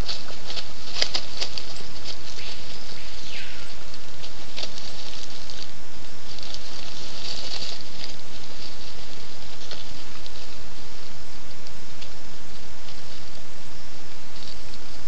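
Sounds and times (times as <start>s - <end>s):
animals rustling through dry leaves: 0.0s - 15.0s
steady background hiss: 0.0s - 15.0s.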